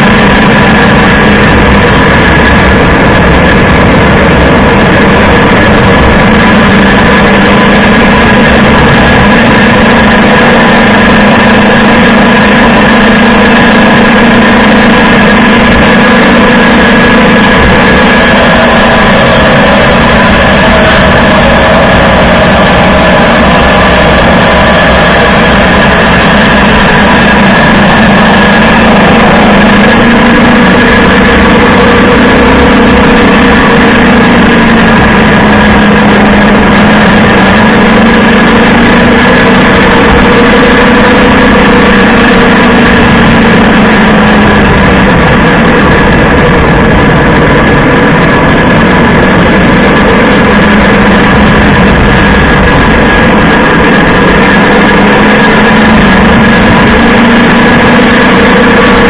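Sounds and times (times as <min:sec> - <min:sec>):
drivetrain droning hum: 0:00.0 - 0:59.0
tyre road noise: 0:00.0 - 0:59.0.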